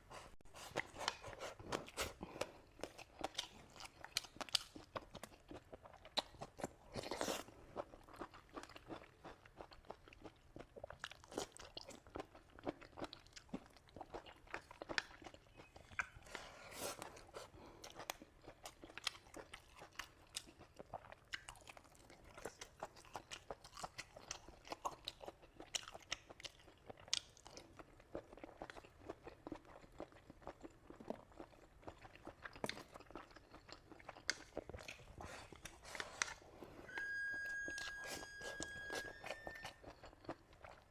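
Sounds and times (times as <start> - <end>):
person chewing crunchy food: 0.1 - 40.9.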